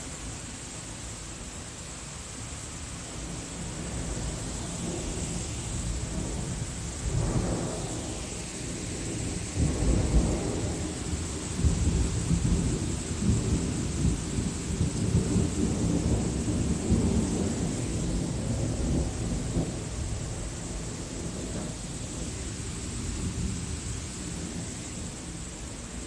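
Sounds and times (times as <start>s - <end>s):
rain hissing: 0.0s - 26.0s
rolling thunder: 3.2s - 25.6s.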